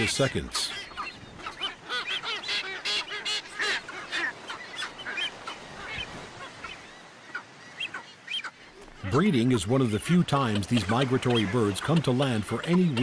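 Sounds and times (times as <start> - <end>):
terns calling: 0.0 - 13.0.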